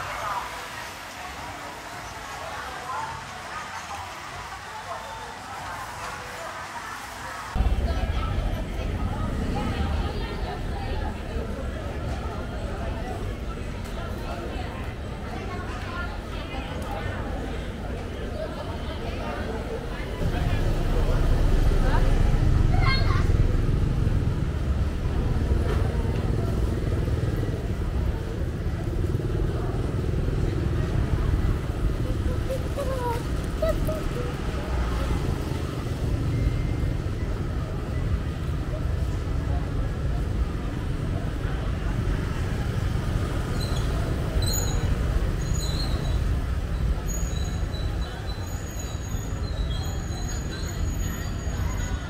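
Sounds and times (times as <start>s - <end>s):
street traffic: 0.0s - 52.0s
motorbike engines rumbling: 5.4s - 52.0s.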